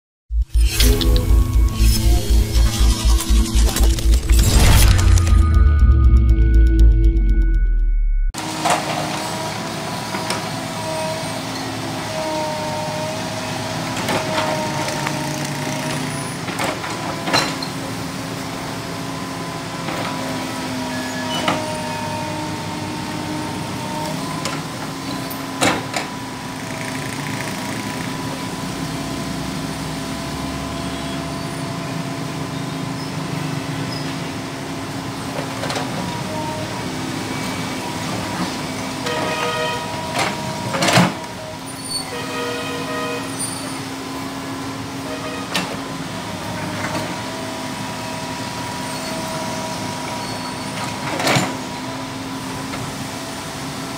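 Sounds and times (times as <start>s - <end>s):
excavator engine and hydraulics: 0.3s - 53.9s.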